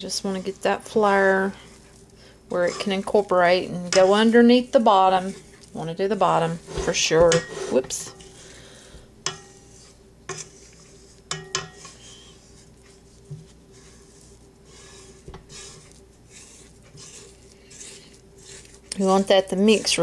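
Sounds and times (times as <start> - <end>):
spatula scraping metal bowl: 0.0 - 8.3, 9.2 - 20.0.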